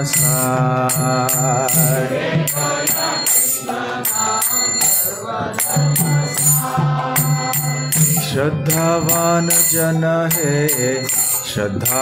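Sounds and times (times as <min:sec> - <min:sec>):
hand cymbals ringing: 0:00.0 - 0:12.0
man singing: 0:00.0 - 0:12.0.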